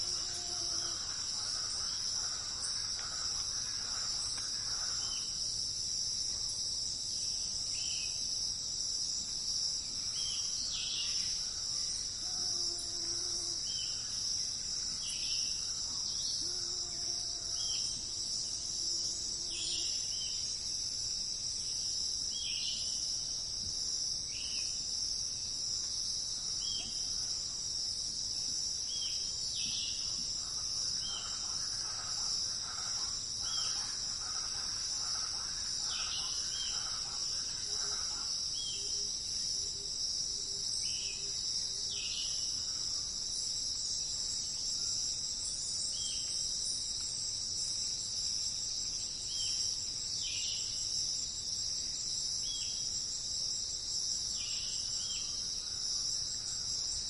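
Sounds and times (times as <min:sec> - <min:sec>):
crickets chirping chorus: 0:00.0 - 0:57.0.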